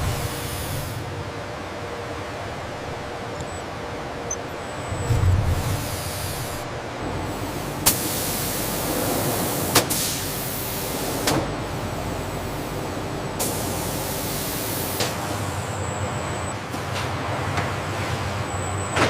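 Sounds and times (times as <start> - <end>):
hissing industrial noise: 0.0 - 18.7.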